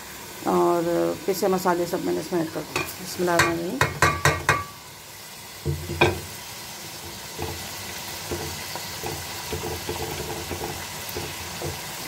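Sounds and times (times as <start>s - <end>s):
meat and potatoes sizzling in oil: 0.0s - 12.0s.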